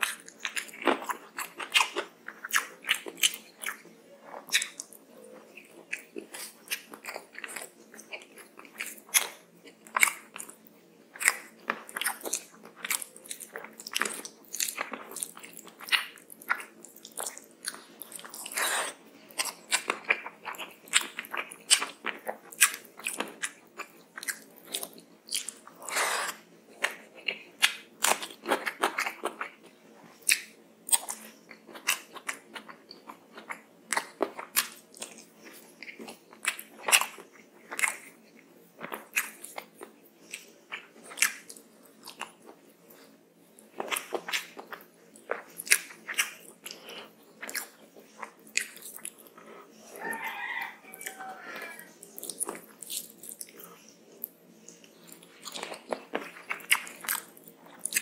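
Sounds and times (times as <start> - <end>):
person chewing and smacking: 0.0 - 58.0.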